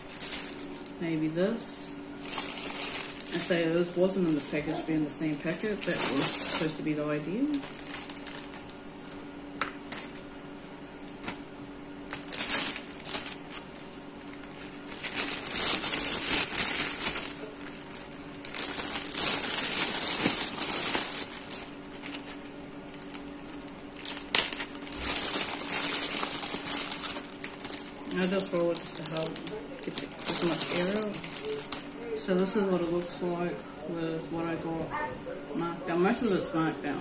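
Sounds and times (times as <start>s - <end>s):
plastic bag crinkling: 0.0s - 1.1s, 2.2s - 10.4s, 11.0s - 33.5s.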